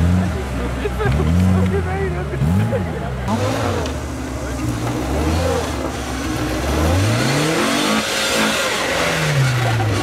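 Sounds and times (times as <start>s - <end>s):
car engine revving hard: 0.0s - 10.0s.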